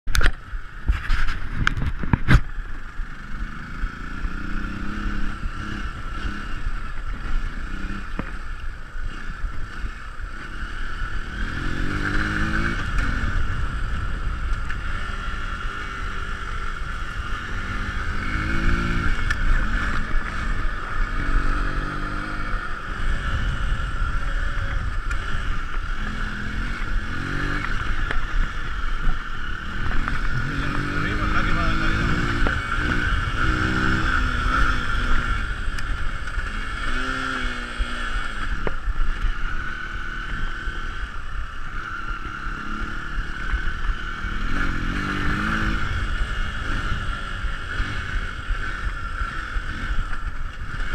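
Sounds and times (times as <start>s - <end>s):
motorcycle engine revving: 0.1s - 50.9s.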